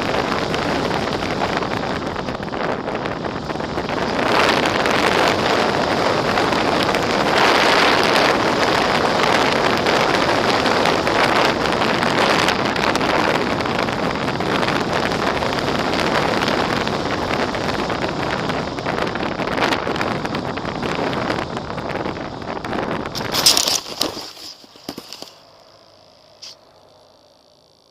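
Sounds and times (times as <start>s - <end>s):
wind rushing over microphone: 0.0s - 25.4s.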